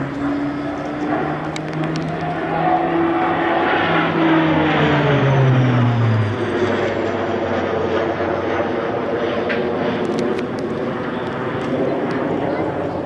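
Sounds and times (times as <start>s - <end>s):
turboprop plane flying overhead: 0.0s - 13.0s.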